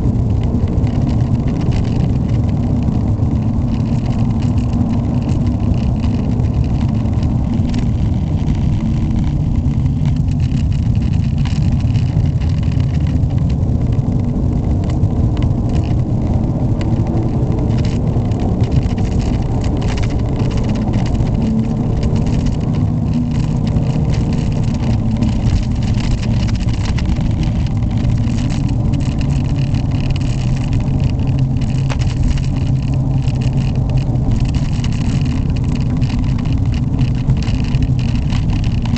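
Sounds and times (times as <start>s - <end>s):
car engine running: 0.0s - 38.9s
road and tyre noise: 0.0s - 38.9s.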